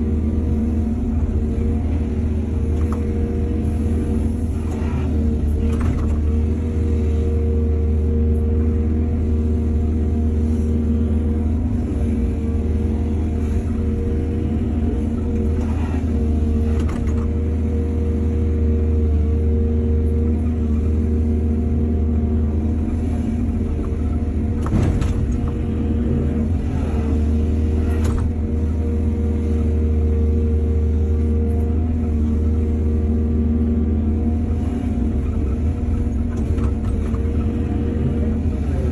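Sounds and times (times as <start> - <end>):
heavy diesel engine rumbling: 0.0 - 38.9.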